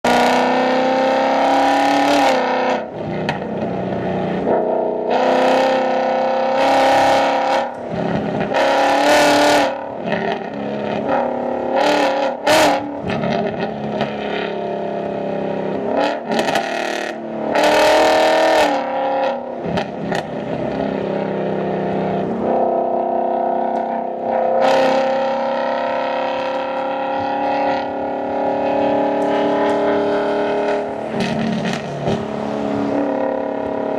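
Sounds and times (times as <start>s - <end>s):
car exhaust revving: 0.0s - 33.9s.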